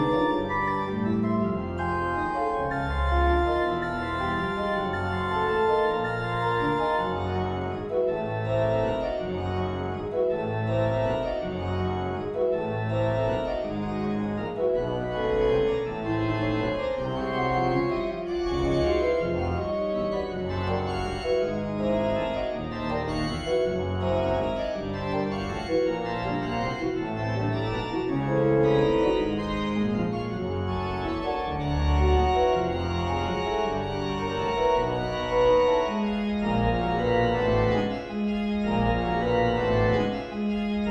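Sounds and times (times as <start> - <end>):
organ pedal bass line: 0.0 - 40.9
pipe organ chords: 0.0 - 40.9.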